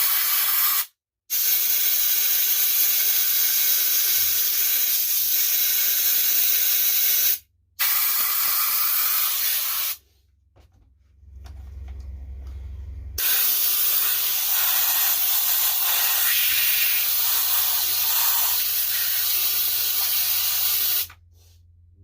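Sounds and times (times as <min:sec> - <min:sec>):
compressed air gun hissing: 0:00.0 - 0:10.0, 0:13.2 - 0:21.2.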